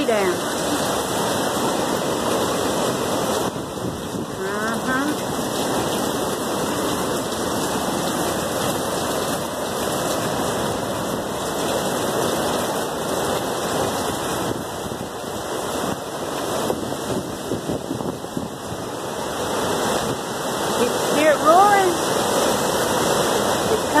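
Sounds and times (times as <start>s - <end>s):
driving rain: 0.0s - 24.0s
hurricane wind: 0.0s - 24.0s.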